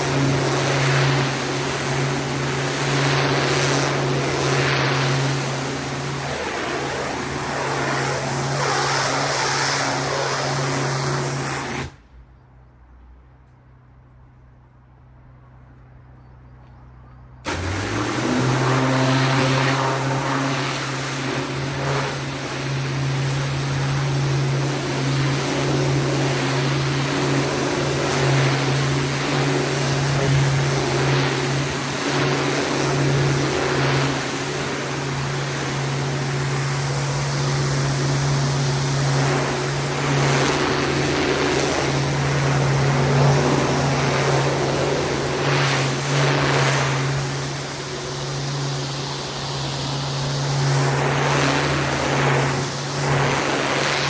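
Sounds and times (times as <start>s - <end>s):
water jet hissing: 0.0s - 12.0s, 17.5s - 54.0s
pressure washer motor hum: 0.0s - 12.2s, 17.4s - 54.0s.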